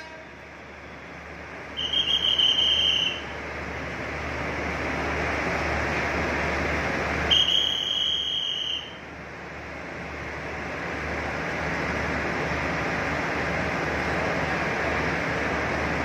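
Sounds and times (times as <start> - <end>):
railway platform background noise: 0.0 - 16.0.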